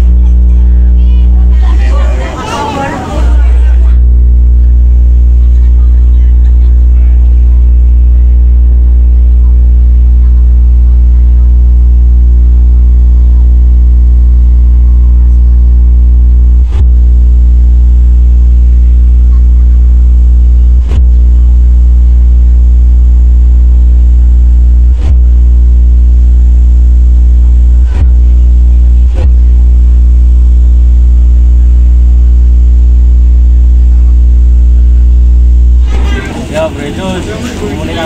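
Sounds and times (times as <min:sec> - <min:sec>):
loud low bass tone: 0:00.0 - 0:38.0.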